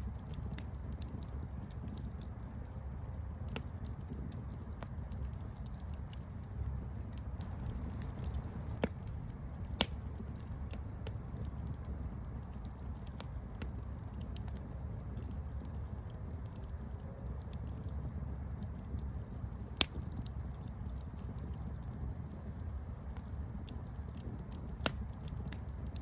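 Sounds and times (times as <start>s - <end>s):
campfire crackling: 0.0s - 26.0s
sharp pops of fire: 3.0s - 16.8s, 18.4s - 26.0s.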